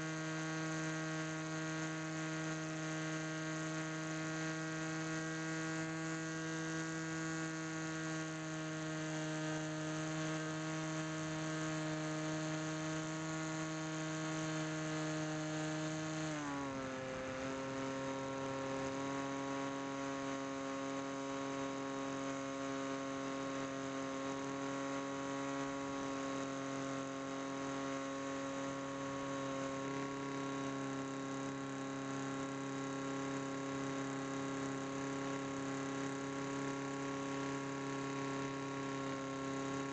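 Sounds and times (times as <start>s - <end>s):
model plane motor and propeller whining: 0.0s - 39.9s.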